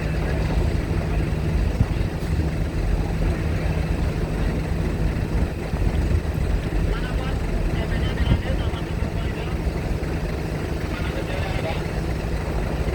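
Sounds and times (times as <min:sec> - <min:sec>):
engines rumbling: 0:00.0 - 0:12.9.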